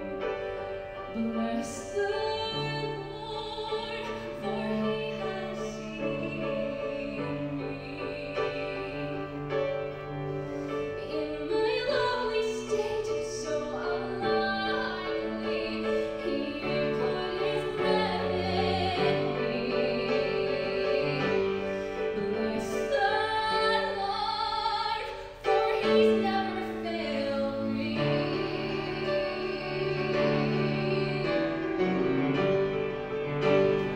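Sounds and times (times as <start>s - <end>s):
cello: 0.0s - 33.9s
piano: 0.0s - 33.9s
woman singing with vibrato: 1.1s - 9.6s, 11.0s - 32.4s.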